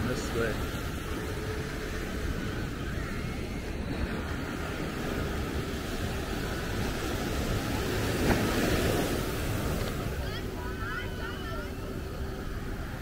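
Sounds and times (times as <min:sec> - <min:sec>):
ocean surf on beach: 0:00.0 - 0:13.0
wind rumbling on microphone: 0:00.0 - 0:13.0.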